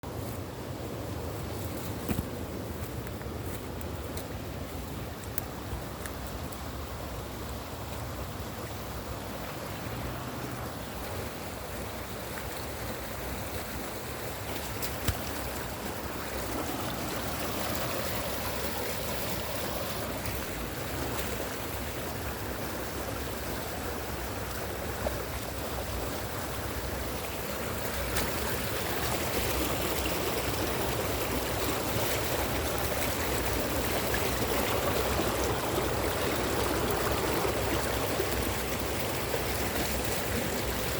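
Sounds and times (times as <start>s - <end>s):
stream water rushing: 0.1s - 40.9s.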